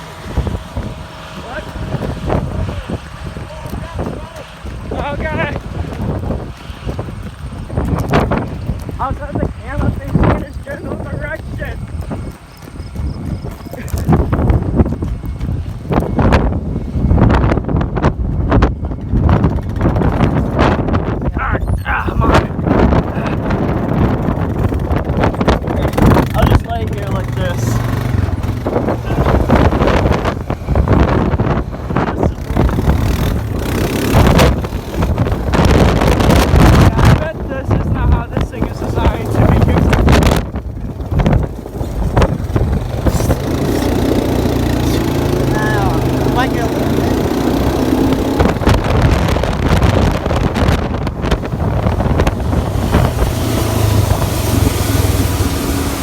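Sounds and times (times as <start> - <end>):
vehicle engine running: 0.0 - 56.0
wind buffeting microphone: 0.0 - 56.0.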